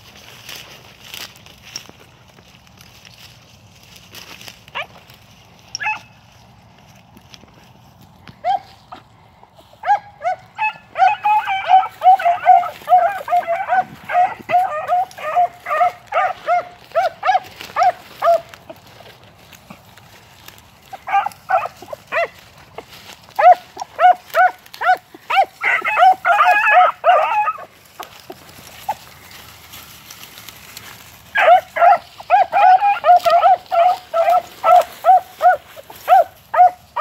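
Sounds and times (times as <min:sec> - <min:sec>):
hounds baying: 0:04.7 - 0:06.2, 0:08.3 - 0:37.0.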